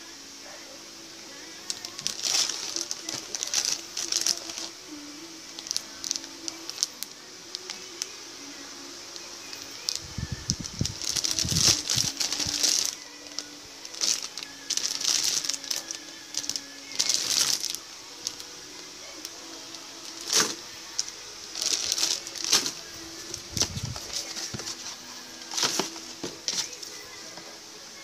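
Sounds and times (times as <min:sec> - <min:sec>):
plastic bags crinkling: 0:01.6 - 0:08.1, 0:09.2 - 0:27.0.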